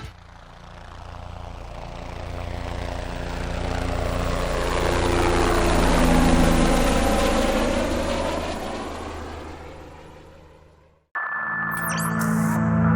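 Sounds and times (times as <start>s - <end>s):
helicopter engine and rotor: 0.0s - 11.1s.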